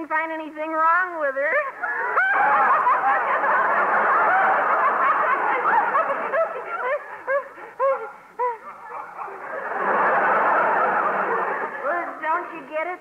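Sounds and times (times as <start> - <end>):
audience laughing: 1.7 - 12.7.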